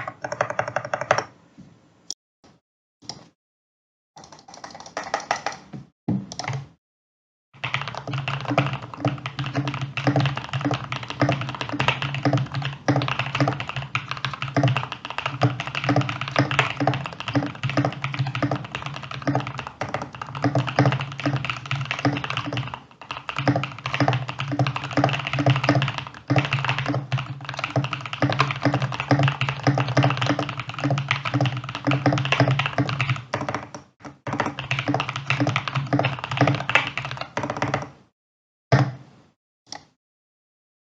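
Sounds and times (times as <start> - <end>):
fast mechanical keyboard typing: 0.0 - 1.3, 4.2 - 5.7, 7.6 - 38.0.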